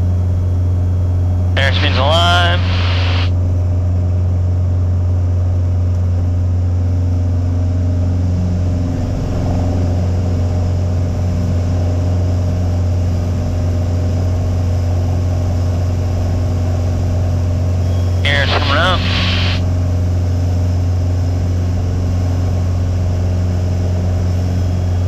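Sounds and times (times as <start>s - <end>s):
airplane engine drone: 0.0s - 25.0s.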